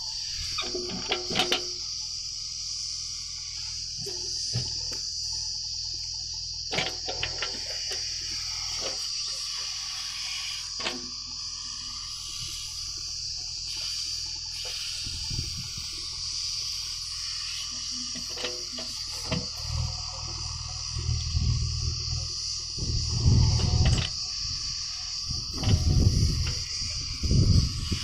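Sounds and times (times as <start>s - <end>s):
high-pitched insect chorus: 0.0s - 28.0s
low steady rumble: 0.0s - 28.0s.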